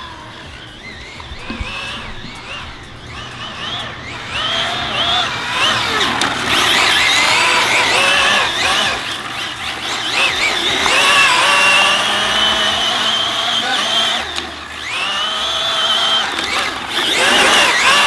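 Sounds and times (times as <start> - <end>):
rc car motor whining: 0.0 - 18.0.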